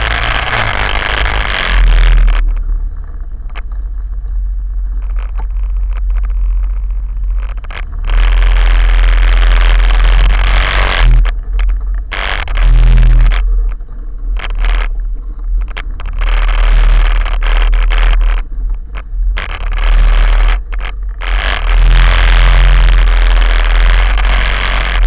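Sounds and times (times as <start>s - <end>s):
harsh rattling hiss on microphone: 0.0s - 25.0s
quad bike engine droning: 0.0s - 25.0s.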